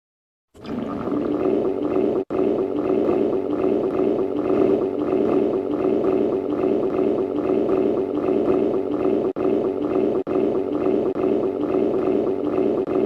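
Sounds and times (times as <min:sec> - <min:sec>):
stomach growling: 0:00.6 - 0:13.0.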